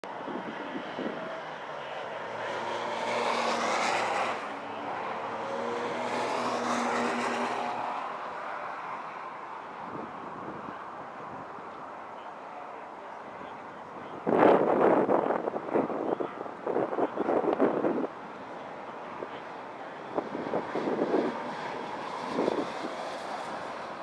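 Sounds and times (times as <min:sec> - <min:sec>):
race car engines passing: 0:00.1 - 0:24.0.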